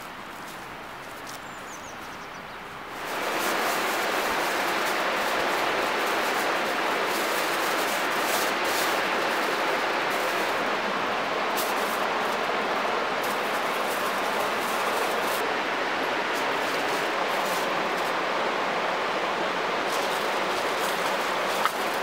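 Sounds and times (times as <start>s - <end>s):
river water rushing over rocks: 2.7s - 22.0s.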